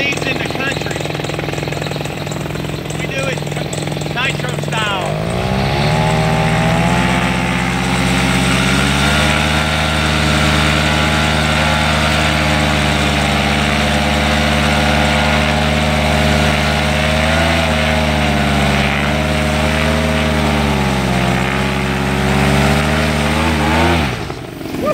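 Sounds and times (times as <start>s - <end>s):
paramotor engine and propeller: 0.0s - 24.9s.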